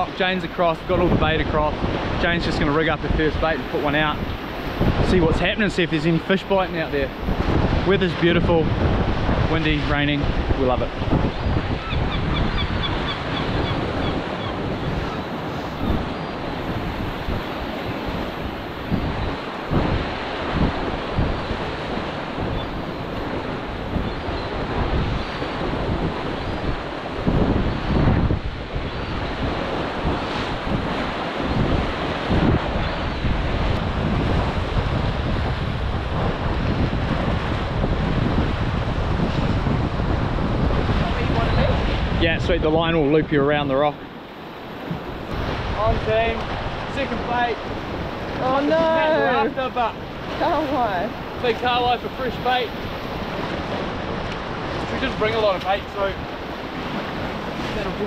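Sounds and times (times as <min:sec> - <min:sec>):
surf washing over rocks: 0:00.0 - 0:58.0
wind buffeting microphone: 0:00.0 - 0:58.0.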